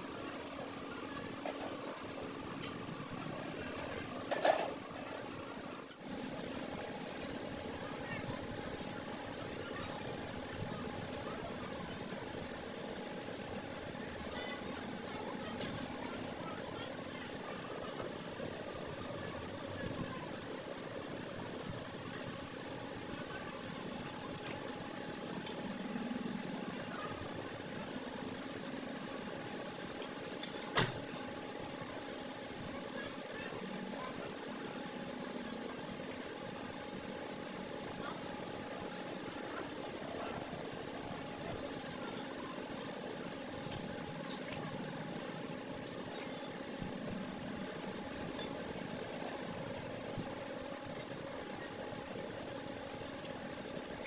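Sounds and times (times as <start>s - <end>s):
machinery hum: 0.0s - 54.0s.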